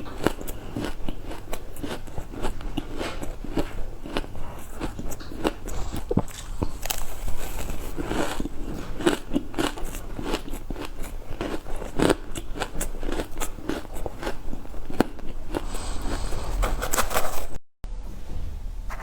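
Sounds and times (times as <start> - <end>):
ice being bitten and crunched: 0.0 - 16.4.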